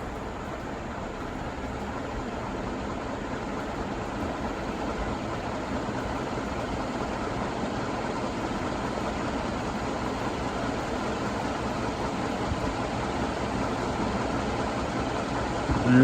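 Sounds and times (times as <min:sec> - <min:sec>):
ceiling fan air rush: 0:00.0 - 0:16.0
fan motor hum: 0:00.0 - 0:16.0.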